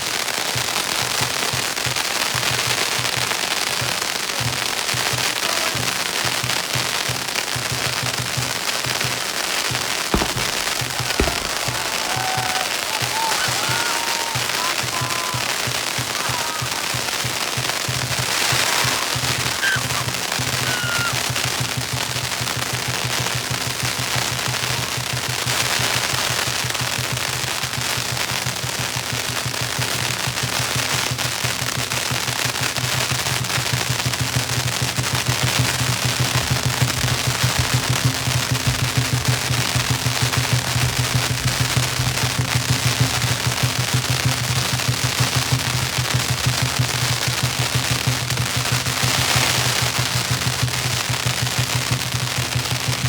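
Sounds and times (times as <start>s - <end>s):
firecrackers crackling: 0.0s - 53.0s.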